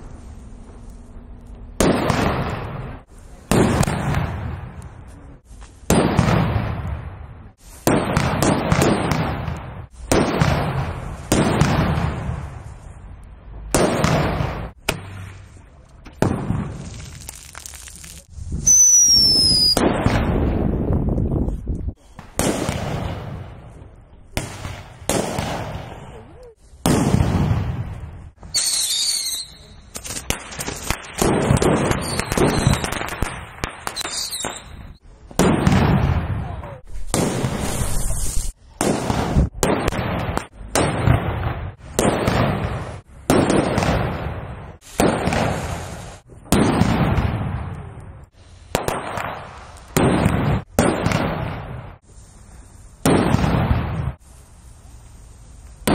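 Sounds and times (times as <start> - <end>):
firecracker bangs echoing: 1.8 - 5.0, 5.9 - 12.7, 13.7 - 20.8, 22.1 - 23.7, 24.3 - 26.2, 26.8 - 48.0, 48.7 - 52.0, 53.0 - 54.2.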